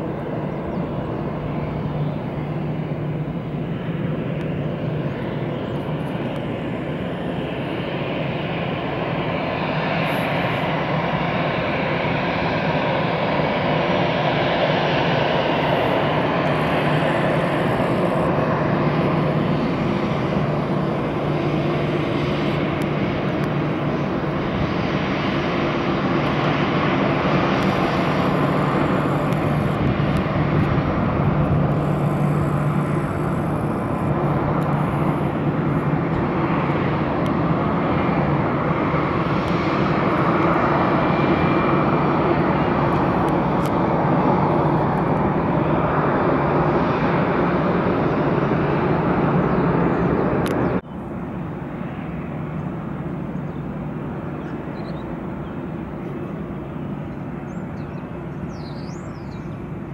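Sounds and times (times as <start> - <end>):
jet engines at taxi power: 0.0 - 59.9.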